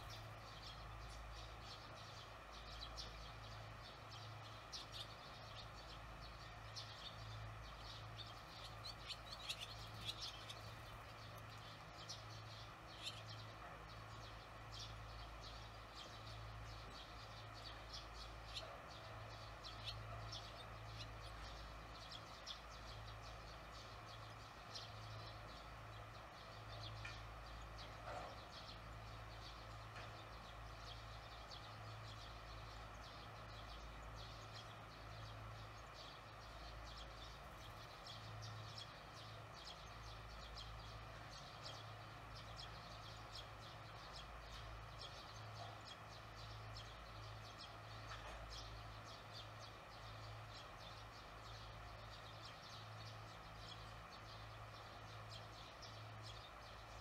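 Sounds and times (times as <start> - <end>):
low steady hum: 0.0 - 57.0
small birds chirping: 0.0 - 57.0.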